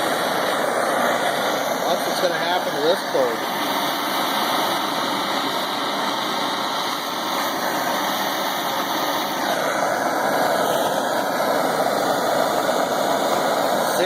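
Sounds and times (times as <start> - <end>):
gas torch flame rushing: 0.0 - 14.0.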